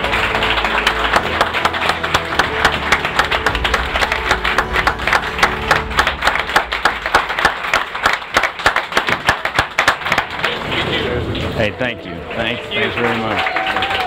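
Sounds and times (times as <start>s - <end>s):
crowd clapping: 0.0s - 14.0s.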